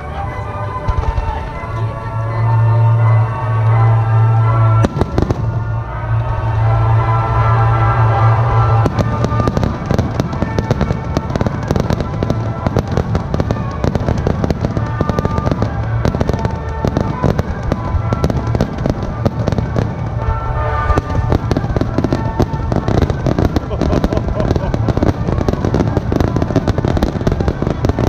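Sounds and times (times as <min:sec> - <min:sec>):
fireworks bangs and crackling: 0:00.0 - 0:28.0
music: 0:00.0 - 0:28.0.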